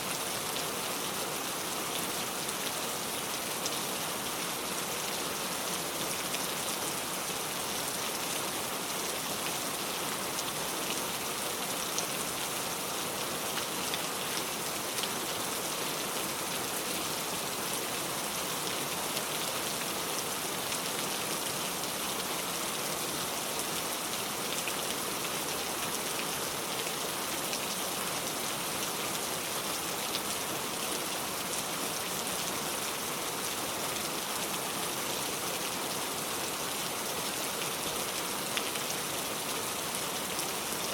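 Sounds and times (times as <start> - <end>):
rain falling on a car: 0.1 - 40.9.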